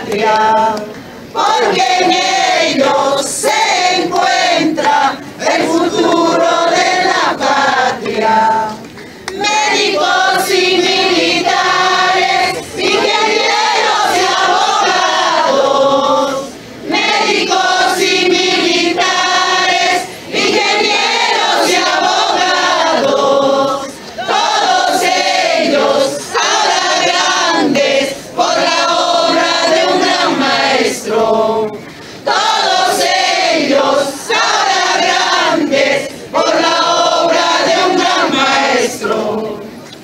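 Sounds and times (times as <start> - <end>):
crowd singing in unison: 0.0 - 40.0.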